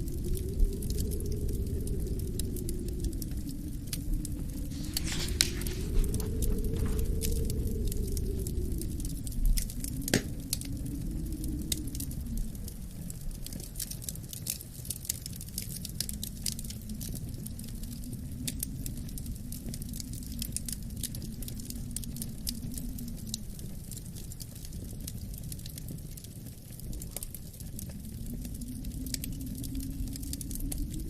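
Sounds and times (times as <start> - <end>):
low wind rumble: 0.0 - 31.0
wood fire crackling and popping: 0.0 - 31.0.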